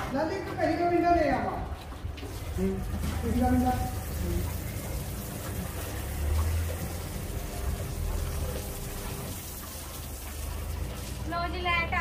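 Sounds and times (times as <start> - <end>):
water splashing into washing machine: 1.7 - 12.0.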